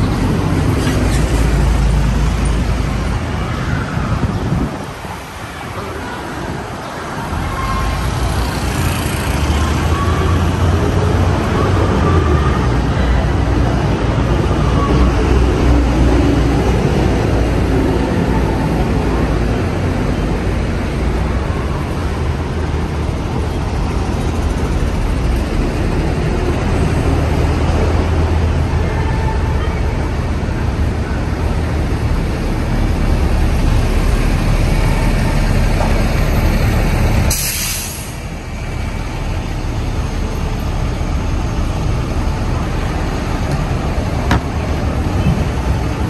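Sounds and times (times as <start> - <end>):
street traffic rumble: 0.0 - 46.0.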